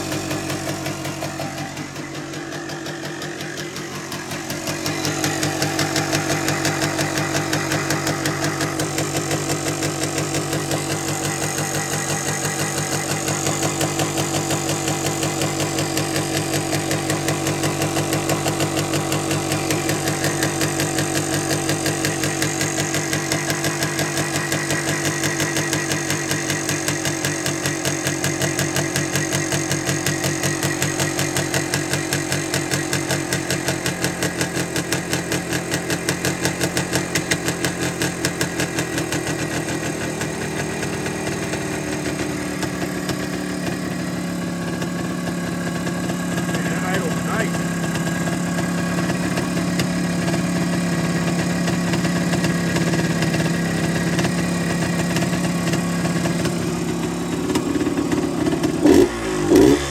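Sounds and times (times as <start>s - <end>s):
two-stroke engine idling: 0.0s - 59.9s.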